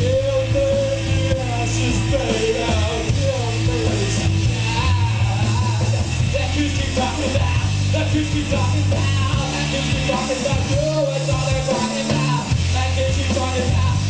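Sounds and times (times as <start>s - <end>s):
bass guitar: 0.0s - 14.0s
drums: 0.0s - 14.0s
electric guitar: 0.0s - 14.0s
person singing: 0.0s - 14.0s.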